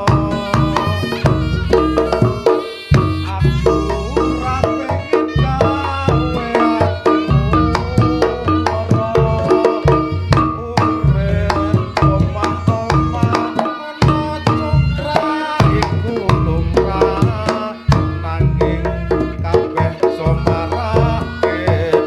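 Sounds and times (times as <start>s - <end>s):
heavy low bass: 0.0s - 21.4s
hand drums fast pattern: 0.0s - 22.0s
pitched melody: 0.0s - 22.0s.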